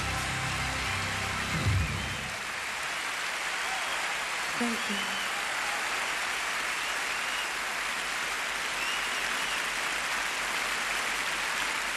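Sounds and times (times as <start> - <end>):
large audience applauding: 0.0 - 11.9.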